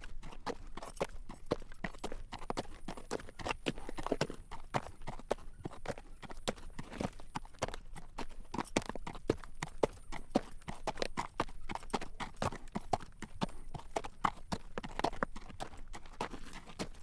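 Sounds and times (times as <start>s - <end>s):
horse hooves clip-clopping on road: 0.0s - 17.0s.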